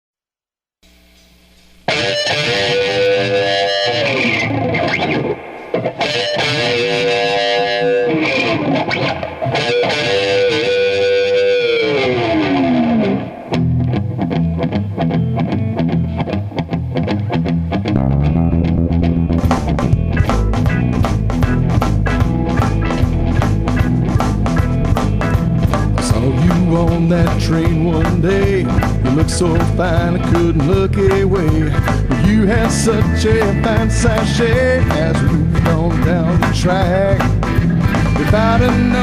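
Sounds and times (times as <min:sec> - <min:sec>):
distorted electric guitar: 0:00.8 - 0:39.0
bass guitar: 0:00.9 - 0:39.0
drums: 0:01.2 - 0:39.0.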